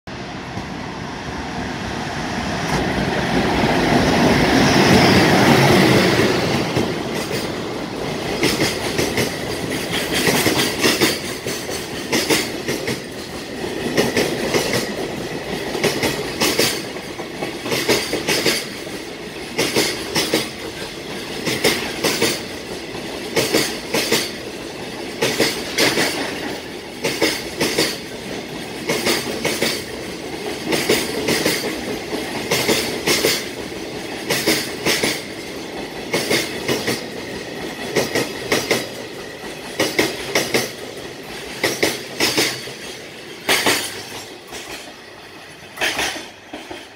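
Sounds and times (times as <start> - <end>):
electric locomotive passing: 0.1 - 46.9
wheels clacking over rail joints: 2.7 - 46.9.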